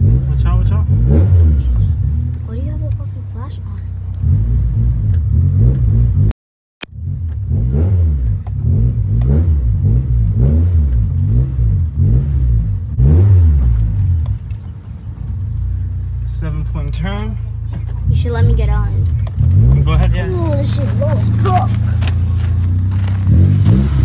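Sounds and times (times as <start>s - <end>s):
car engine revving: 0.0s - 6.3s, 6.9s - 24.0s.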